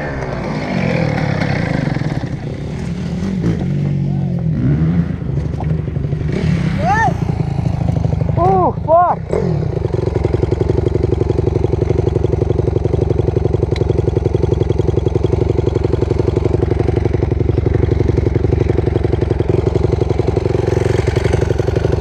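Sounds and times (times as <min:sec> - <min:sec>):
dirt bike engine idling: 0:00.0 - 0:22.0.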